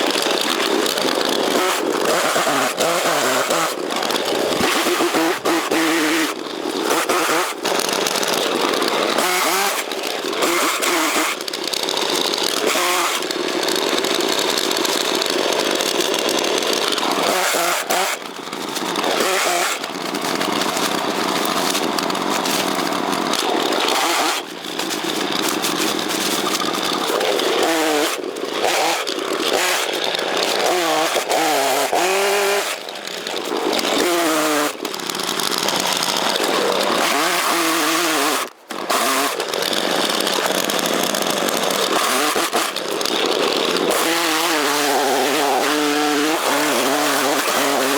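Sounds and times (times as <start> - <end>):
chainsaw revving and cutting: 0.0 - 47.9.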